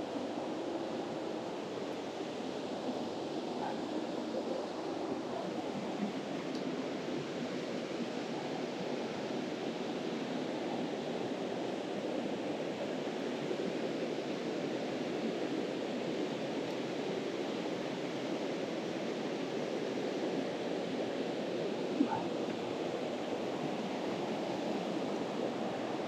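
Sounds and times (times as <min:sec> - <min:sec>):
mountain stream flowing: 0:00.0 - 0:26.0.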